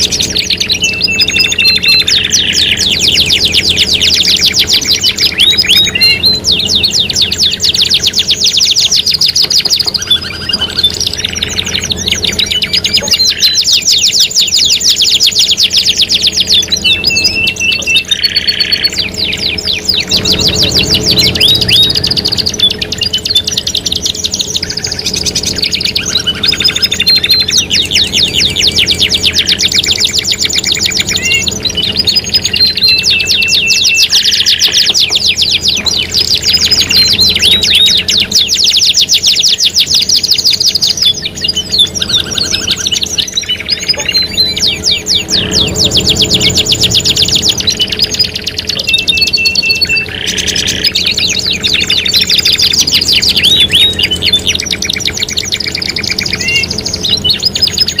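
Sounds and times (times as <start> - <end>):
songbirds singing trills: 0.0 - 58.0.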